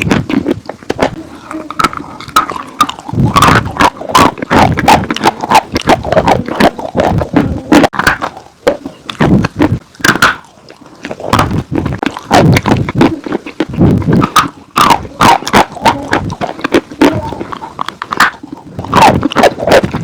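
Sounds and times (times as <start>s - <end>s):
chewing with sharp crunches: 0.0s - 20.0s.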